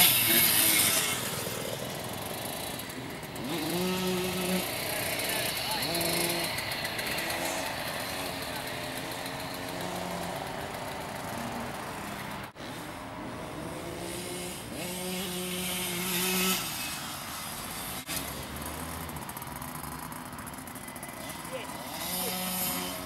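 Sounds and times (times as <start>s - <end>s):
small motorcycle engine revving: 0.0s - 23.0s.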